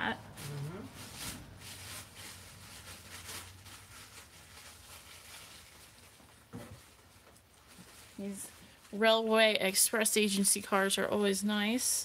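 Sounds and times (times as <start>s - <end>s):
faint rustling and handling: 0.3s - 10.5s.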